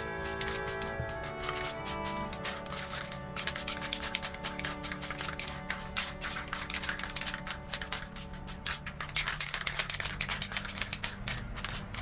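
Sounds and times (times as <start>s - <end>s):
faint background music: 0.0s - 12.0s
spray can rattling: 0.0s - 12.0s.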